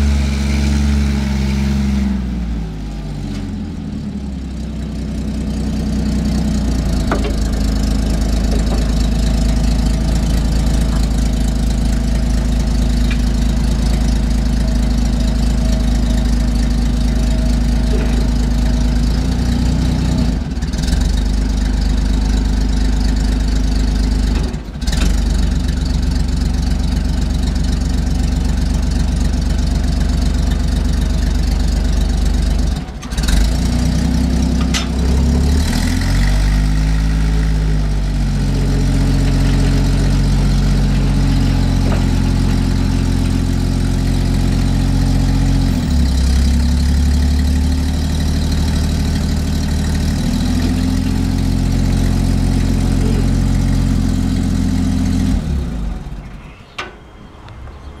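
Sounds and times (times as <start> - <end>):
forklift engine running under load: 0.0 - 58.0.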